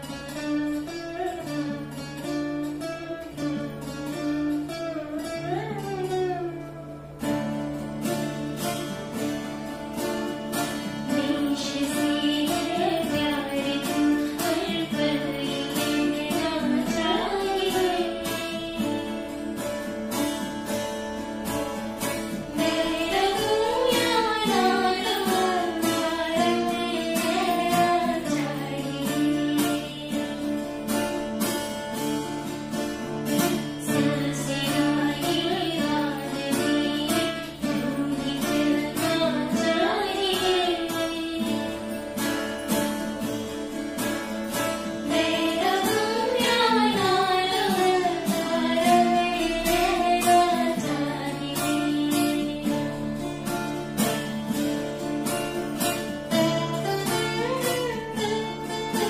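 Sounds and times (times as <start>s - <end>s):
acoustic guitar strumming chords: 0.0s - 59.0s
slide guitar gliding melody: 0.0s - 59.0s
woman singing: 4.9s - 20.5s, 21.6s - 32.3s, 32.9s - 59.0s.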